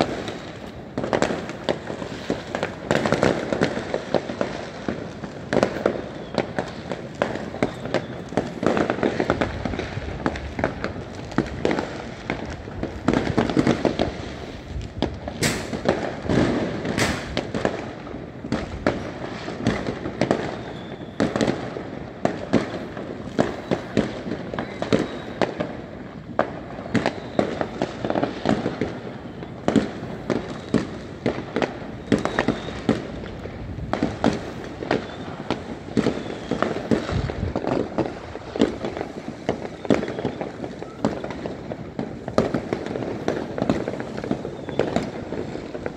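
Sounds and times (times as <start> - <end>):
fireworks bangs and pops: 0.0 - 45.9.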